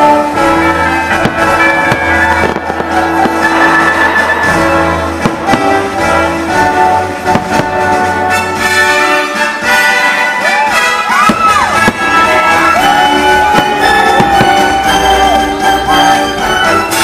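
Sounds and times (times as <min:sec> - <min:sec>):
firework bangs: 0:00.0 - 0:17.0
orchestral music with brass: 0:00.0 - 0:17.0.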